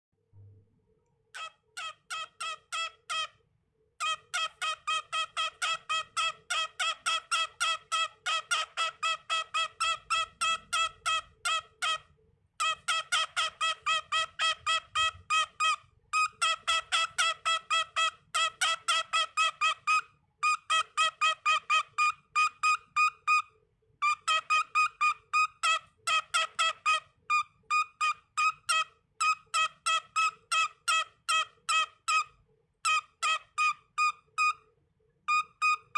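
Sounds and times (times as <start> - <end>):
cockatiel chirping: 1.3 - 3.4, 4.0 - 34.7, 35.3 - 35.9.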